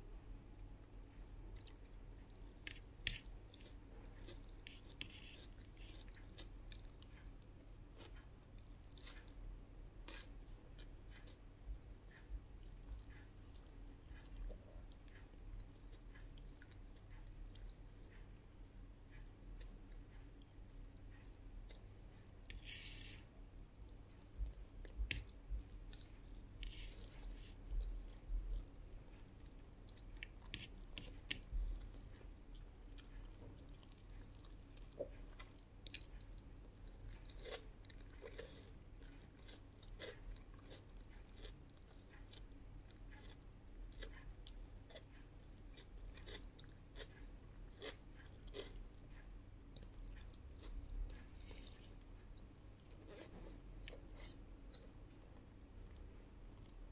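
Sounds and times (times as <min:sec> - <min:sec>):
person chewing food: 0:00.2 - 0:56.9.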